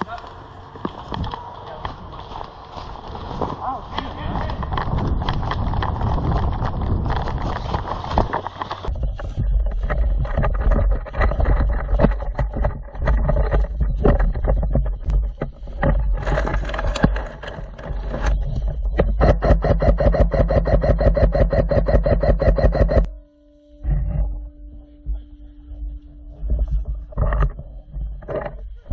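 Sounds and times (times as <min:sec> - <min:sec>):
gear knocking and rattling: 0:00.0 - 0:23.1, 0:26.3 - 0:28.9
low rumble: 0:00.0 - 0:28.9
gearbox motor whine: 0:04.6 - 0:28.9.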